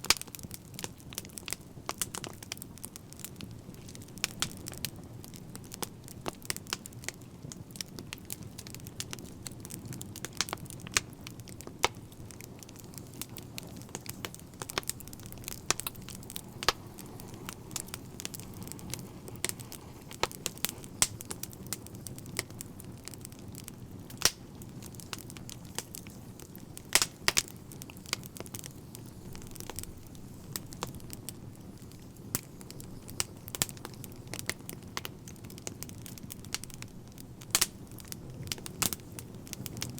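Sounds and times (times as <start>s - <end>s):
fire flames rumbling: 0.0s - 39.9s
wood fire popping and snapping: 0.0s - 39.9s.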